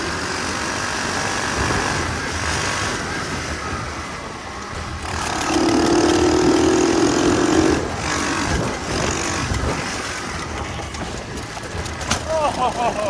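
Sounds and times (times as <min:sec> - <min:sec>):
mini bike engine revving: 0:00.0 - 0:13.0
wind on microphone: 0:01.5 - 0:12.2.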